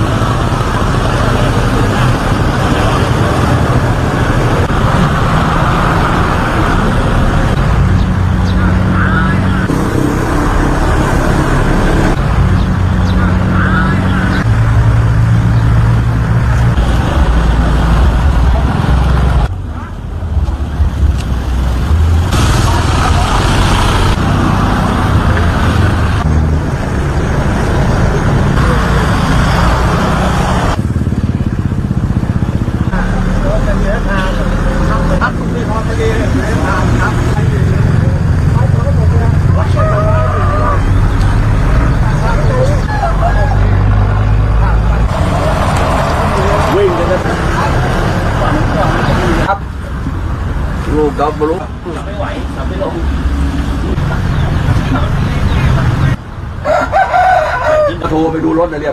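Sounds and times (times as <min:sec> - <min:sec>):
car and motorcycle engines: 0:00.0 - 0:58.9
road traffic rumble: 0:00.0 - 0:58.9.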